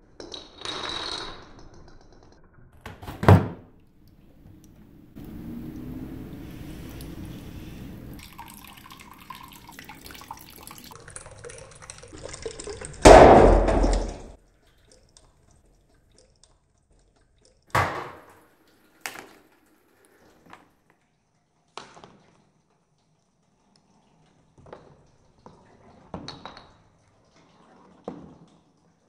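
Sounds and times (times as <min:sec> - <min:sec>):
water trickling and dripping: 0:03.8 - 0:29.0.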